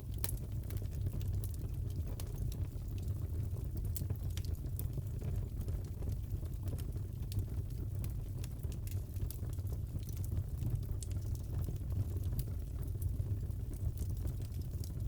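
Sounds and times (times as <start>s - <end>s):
fire crackles and pops: 0.0s - 15.0s.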